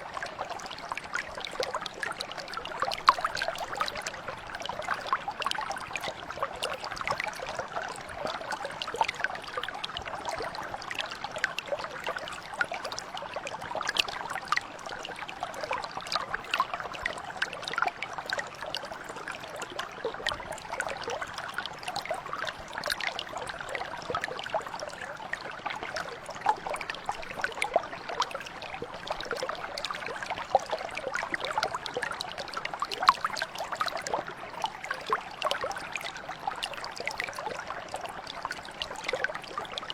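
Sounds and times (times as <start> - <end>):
brook trickling over stones: 0.0 - 39.9.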